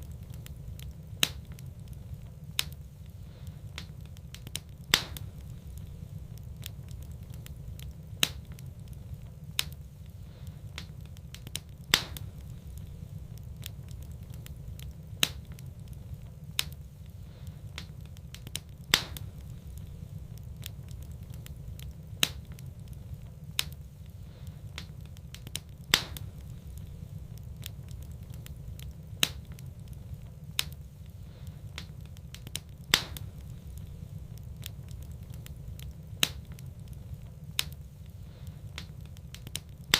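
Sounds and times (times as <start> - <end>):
fire low rumble: 0.0 - 39.9
wood fire crackling and popping: 0.0 - 39.9.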